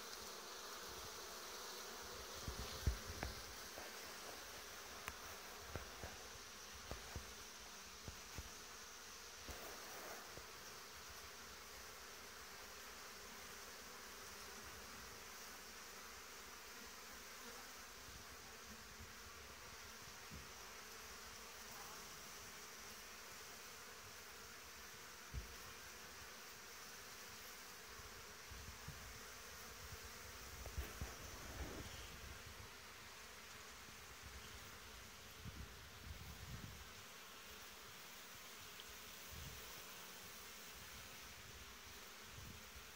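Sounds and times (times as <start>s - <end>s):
honeybees buzzing: 0.0s - 42.9s.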